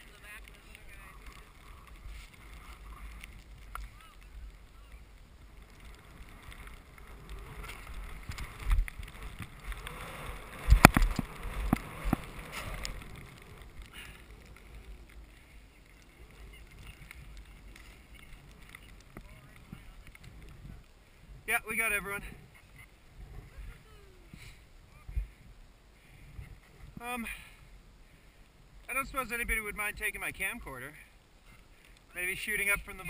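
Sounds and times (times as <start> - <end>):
wind rumble on microphone: 0.0 - 27.0
skis hissing through powder snow: 0.0 - 28.3.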